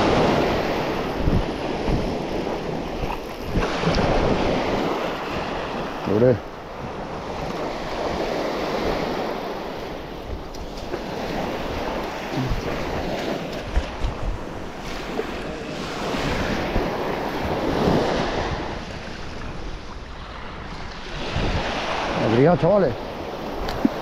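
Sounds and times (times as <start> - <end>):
surf washing onto beach: 0.0 - 24.0
wind buffeting microphone: 0.0 - 24.0.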